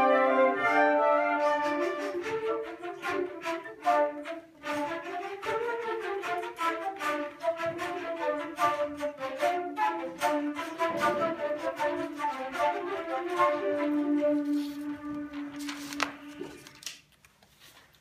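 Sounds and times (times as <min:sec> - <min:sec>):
flute ensemble playing: 0:00.0 - 0:16.8.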